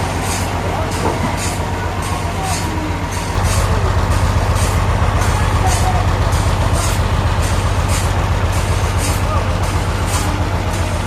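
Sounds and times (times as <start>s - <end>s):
regular machine hiss: 0.0s - 11.0s
sawmill engine drone: 0.0s - 11.0s.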